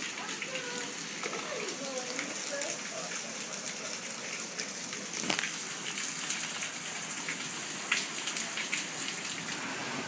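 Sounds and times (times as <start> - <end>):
heavy rain on wet pavement: 0.0 - 10.0.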